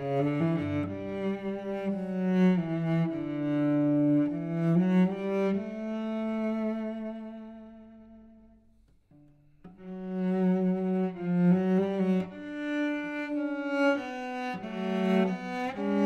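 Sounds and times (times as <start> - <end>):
cello playing slow bowed notes: 0.0 - 16.0.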